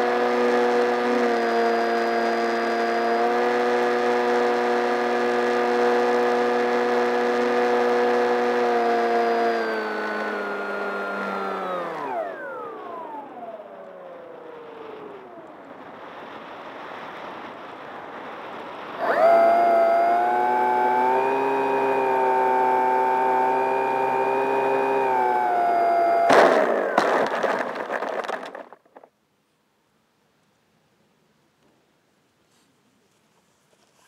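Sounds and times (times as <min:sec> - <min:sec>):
electric motor whine: 0:00.0 - 0:28.7.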